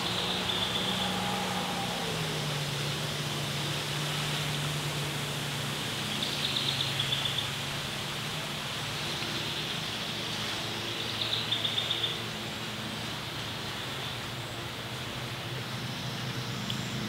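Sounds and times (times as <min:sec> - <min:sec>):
distant engine hum: 0:00.0 - 0:17.0.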